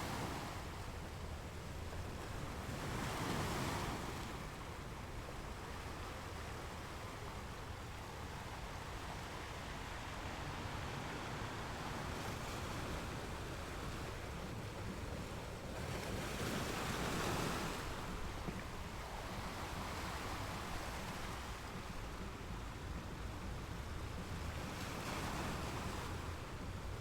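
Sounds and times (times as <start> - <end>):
ocean waves washing on shore: 0.0 - 27.0.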